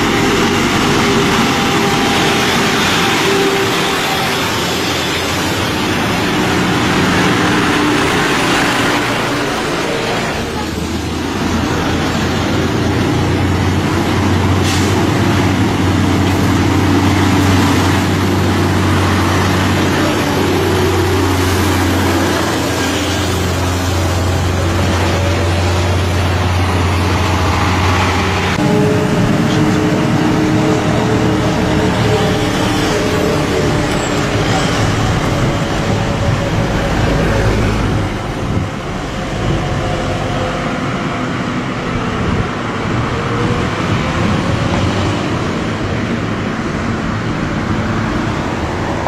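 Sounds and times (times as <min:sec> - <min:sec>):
lorry diesel engine drone: 0:00.0 - 0:49.0
traffic noise: 0:00.0 - 0:49.0.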